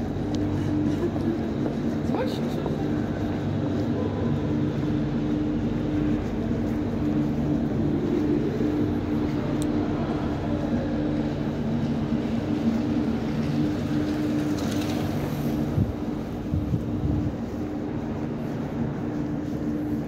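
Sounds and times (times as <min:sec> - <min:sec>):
mechanical drone in tunnel: 0:00.0 - 0:20.0.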